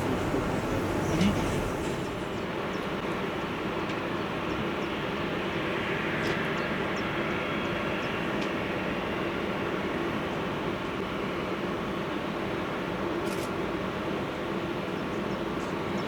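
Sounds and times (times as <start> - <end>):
jet airliner engine rushing: 0.0 - 16.0.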